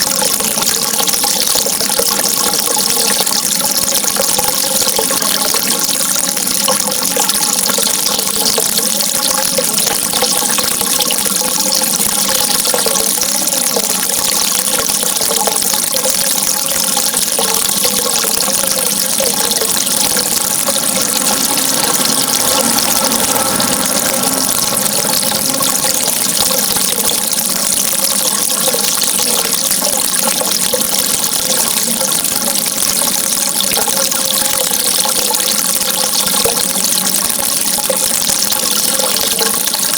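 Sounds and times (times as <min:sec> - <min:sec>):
faint wavering gurgle: 0:00.0 - 0:39.9
running water: 0:00.0 - 0:39.9.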